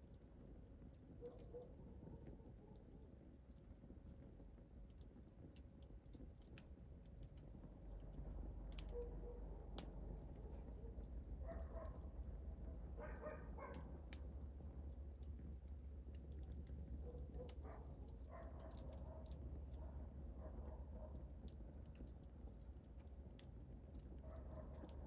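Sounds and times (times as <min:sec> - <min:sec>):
wood fire crackling and popping: 0:02.8 - 0:25.0.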